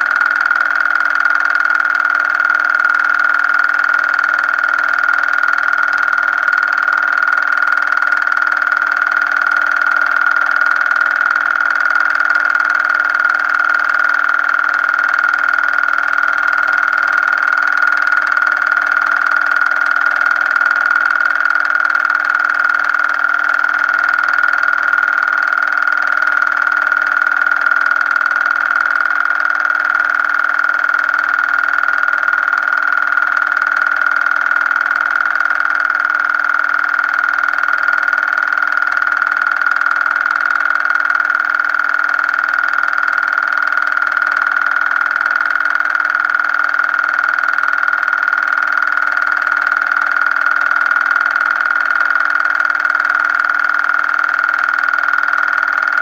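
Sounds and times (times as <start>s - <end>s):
low repeating pulse: 0.0s - 56.0s.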